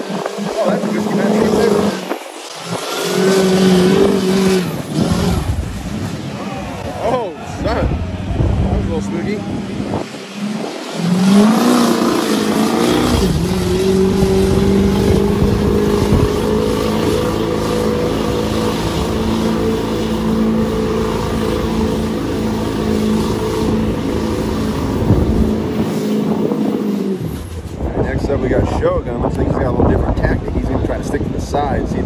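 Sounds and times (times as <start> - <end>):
truck churning through mud: 0.0 - 28.0
truck engine revving: 0.0 - 28.7.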